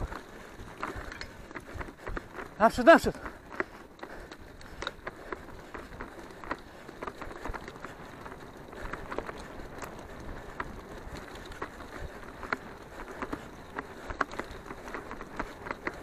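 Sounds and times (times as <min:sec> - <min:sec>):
bike rattling clicks: 0:00.0 - 0:16.0
bike tyres rumbling on dirt: 0:00.0 - 0:16.0.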